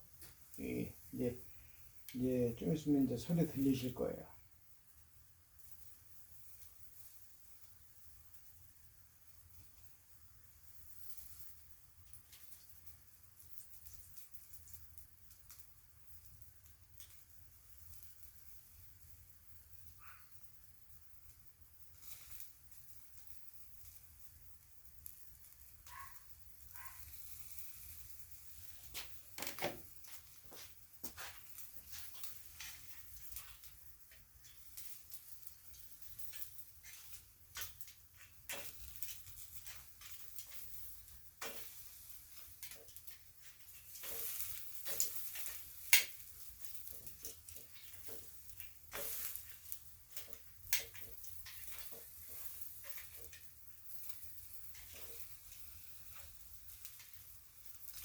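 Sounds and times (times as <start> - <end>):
crackles and pops: 0.0 - 4.0, 4.8 - 58.0
fat sizzling on charcoal: 0.0 - 58.0.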